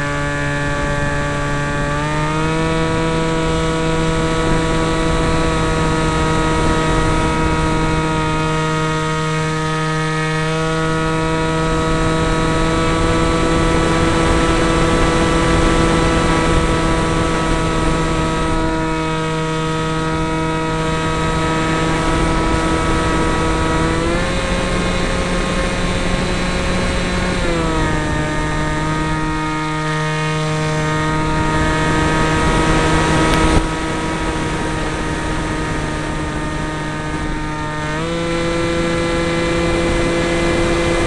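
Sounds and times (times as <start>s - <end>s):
model jet motor whine: 0.0s - 41.0s
wind rushing over microphone: 0.0s - 41.0s.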